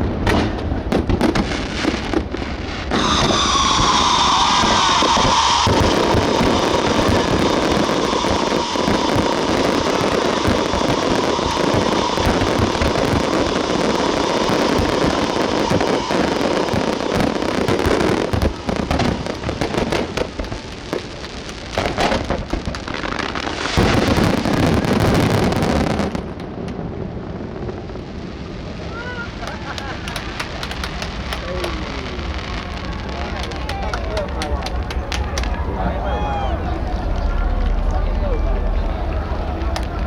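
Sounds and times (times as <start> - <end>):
fireworks popping and banging: 0.0 - 40.0.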